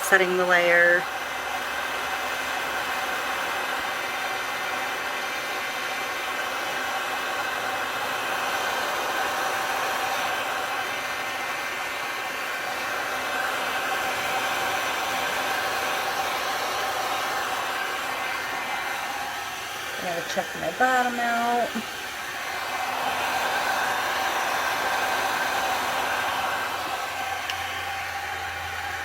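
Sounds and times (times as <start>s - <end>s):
heat gun blowing: 0.0s - 29.0s.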